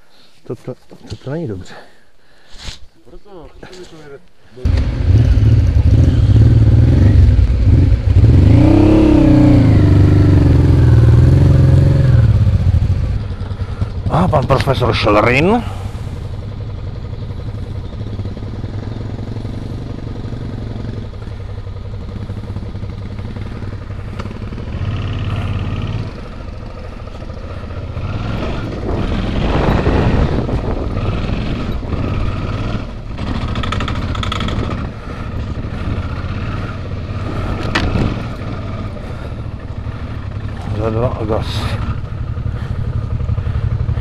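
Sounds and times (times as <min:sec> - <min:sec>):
motorcycle engine revving: 0:04.6 - 0:44.0.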